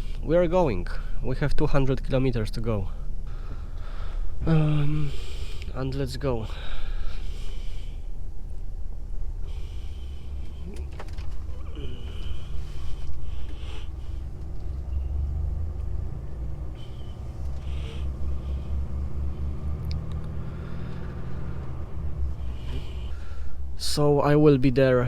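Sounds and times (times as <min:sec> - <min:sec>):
truck diesel engine drone: 0:00.0 - 0:25.0.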